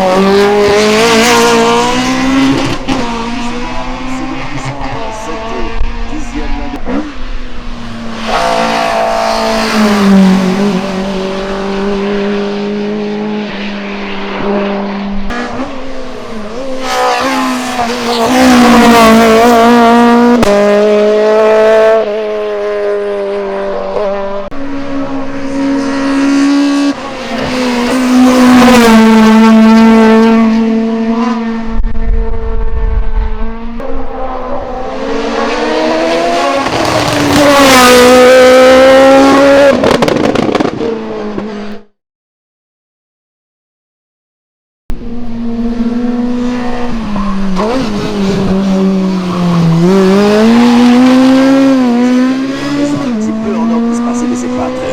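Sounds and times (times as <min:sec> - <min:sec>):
racing car engines revving: 0:00.0 - 0:41.9, 0:44.9 - 0:54.9.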